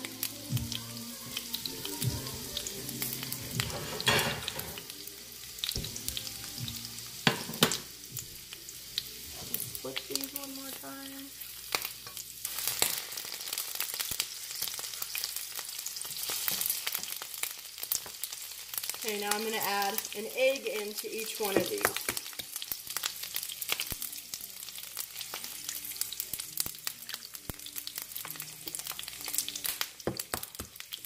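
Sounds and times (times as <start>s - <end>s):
onion rings frying in oil: 0.0s - 31.0s.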